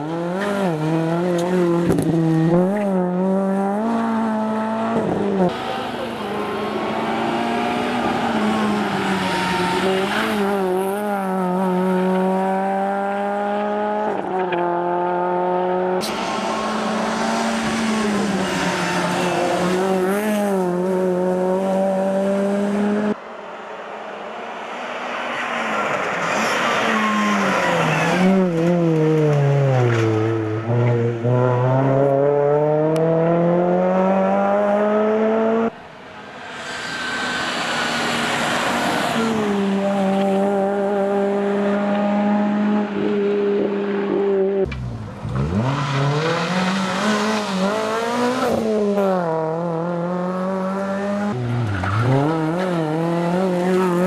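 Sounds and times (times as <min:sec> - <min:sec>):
rally car engine revving: 0:00.0 - 0:23.2, 0:25.8 - 0:35.8, 0:36.5 - 0:54.0.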